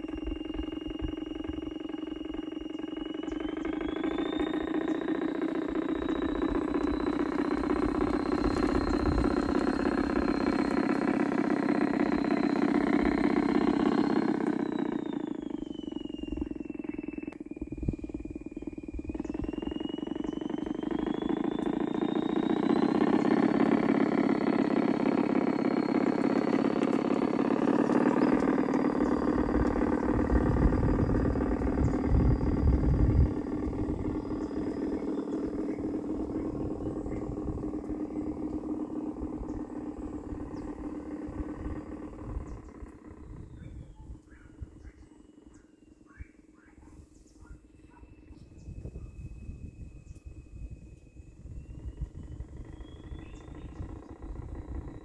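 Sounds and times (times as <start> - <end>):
electric motor whine: 0.0 - 46.2, 47.6 - 55.0
model locomotive droning hum: 0.0 - 55.0.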